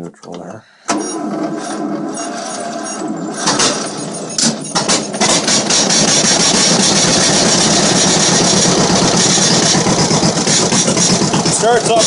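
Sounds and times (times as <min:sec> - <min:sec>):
tractor engine starting and running: 0:00.1 - 0:12.0.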